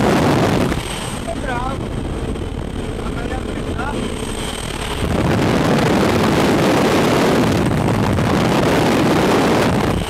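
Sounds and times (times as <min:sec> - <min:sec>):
wind rushing across microphone: 0:00.0 - 0:10.0.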